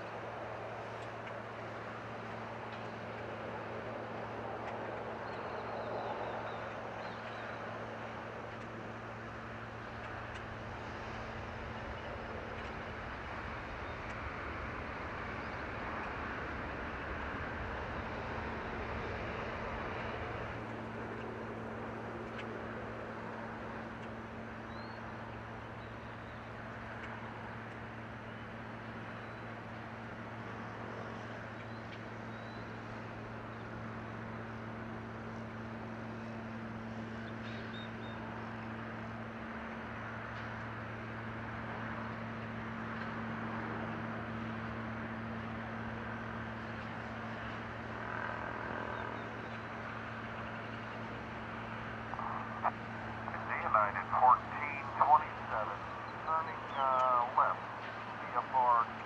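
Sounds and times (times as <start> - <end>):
jet engine roar at takeoff: 0.0 - 59.0
low steady hum: 0.0 - 59.0.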